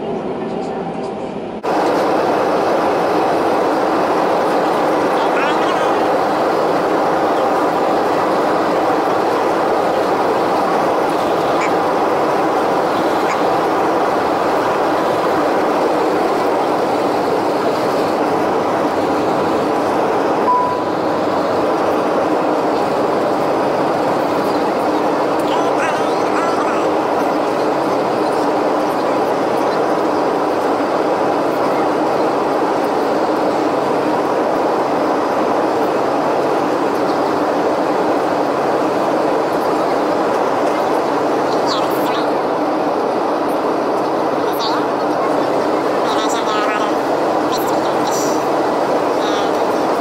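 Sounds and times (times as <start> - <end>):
airliner cabin engine rush: 0.0 - 50.0.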